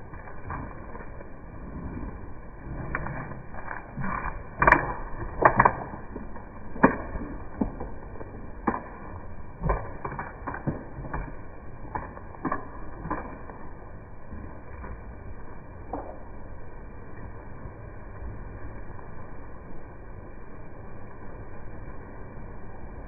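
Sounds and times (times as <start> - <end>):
low steady hiss: 0.0 - 23.0.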